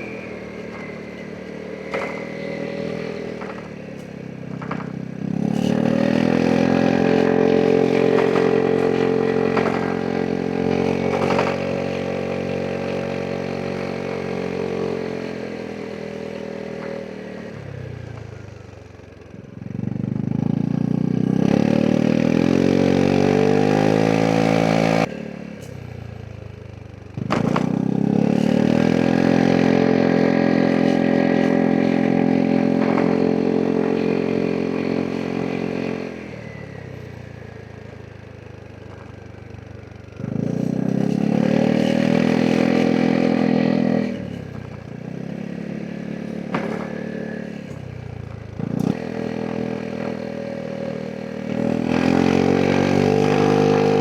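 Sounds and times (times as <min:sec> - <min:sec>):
scooter engine revving: 0:00.0 - 0:54.0.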